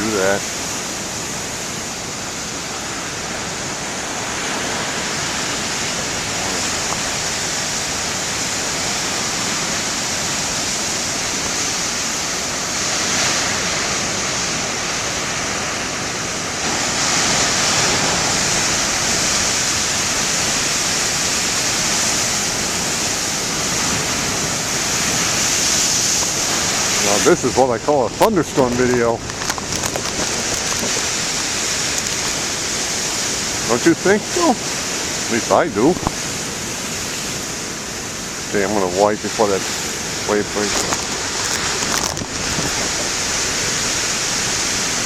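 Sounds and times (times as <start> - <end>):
heavy ocean surf breaking: 0.0 - 45.0.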